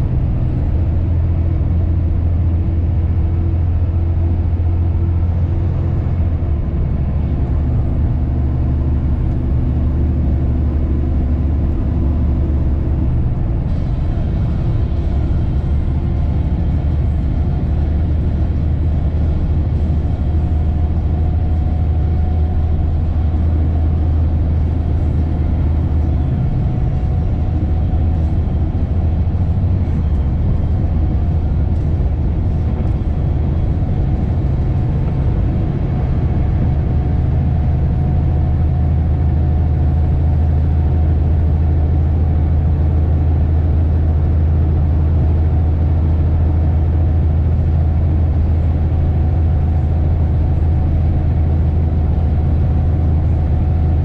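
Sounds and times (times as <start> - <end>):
diesel truck engine drone: 0.0 - 54.0.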